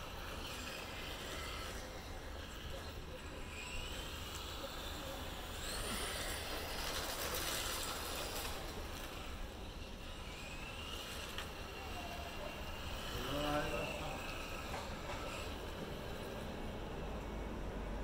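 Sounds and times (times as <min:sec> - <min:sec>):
electric toy car motor whining: 0:00.0 - 0:18.0.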